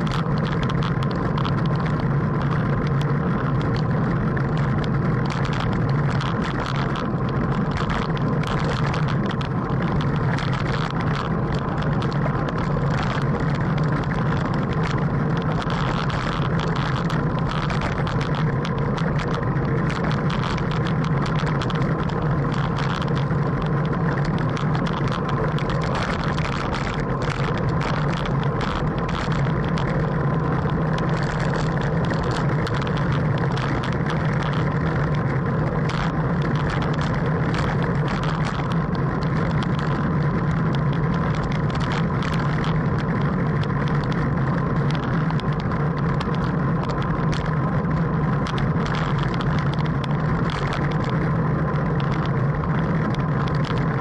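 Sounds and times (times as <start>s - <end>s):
light ticks: 0.0s - 54.0s
road noise: 0.0s - 54.0s
wind rush on microphone: 0.0s - 54.0s.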